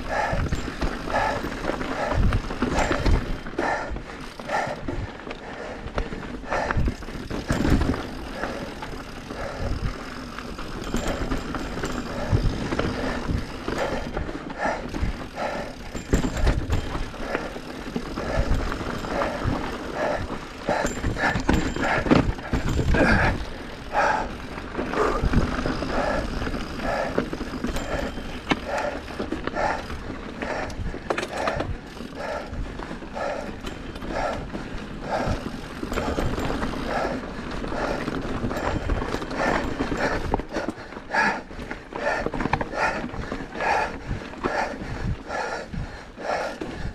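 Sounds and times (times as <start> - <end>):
bike rattling on rocks: 0.0 - 46.9
wind rumble: 0.0 - 46.9.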